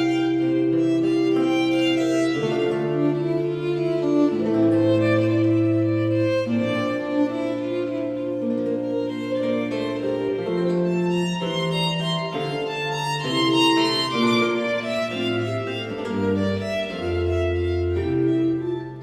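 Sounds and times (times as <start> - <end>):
slow bowed string music: 0.0 - 19.0.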